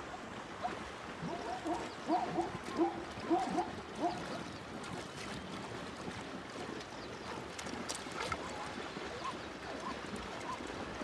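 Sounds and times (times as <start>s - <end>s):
ostriches splashing in water: 0.7s - 11.0s.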